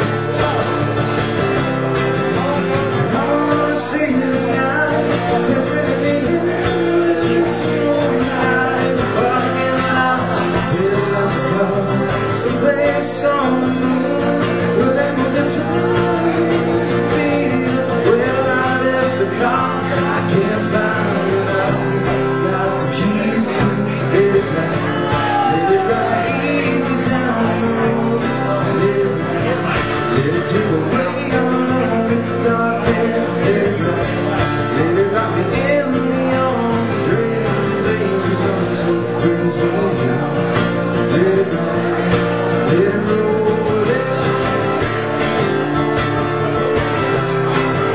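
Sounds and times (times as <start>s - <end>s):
guitar chords: 0.0s - 47.9s
man singing: 0.0s - 47.9s.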